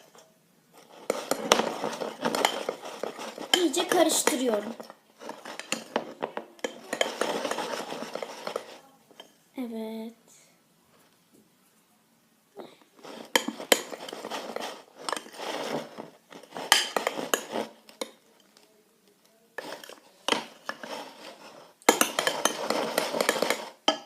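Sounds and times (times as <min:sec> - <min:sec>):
spoon stirring thick slime: 0:00.0 - 0:09.4, 0:13.0 - 0:24.0.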